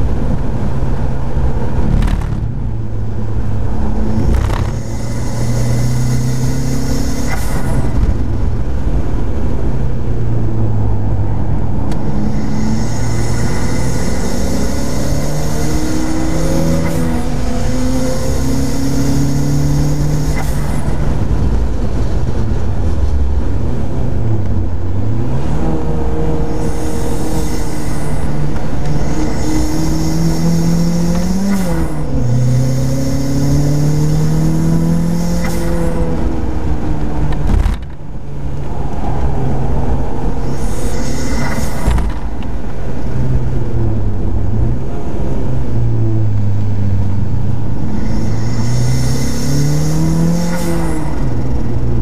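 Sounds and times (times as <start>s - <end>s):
car engine revving through gears: 0.1s - 52.0s.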